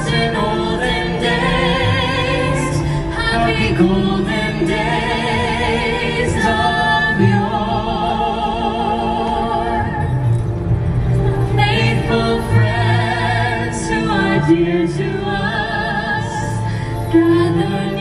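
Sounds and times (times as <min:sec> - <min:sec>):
women singing into microphones: 0:00.0 - 0:10.3, 0:11.2 - 0:18.0
accompanying music: 0:00.0 - 0:18.0.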